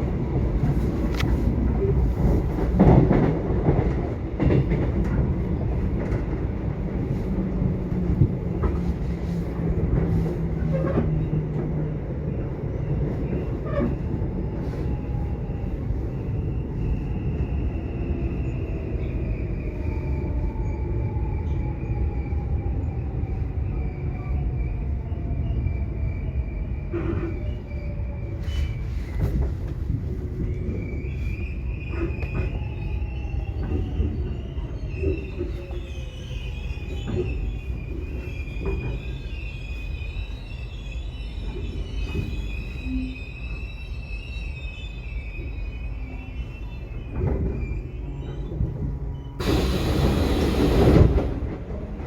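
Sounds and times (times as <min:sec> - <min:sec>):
subway train rumbling on rails: 0:00.0 - 0:52.0.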